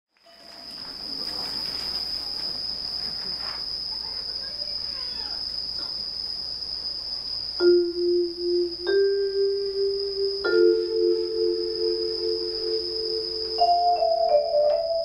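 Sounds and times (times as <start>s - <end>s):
night insects trilling: 0.2s - 15.0s.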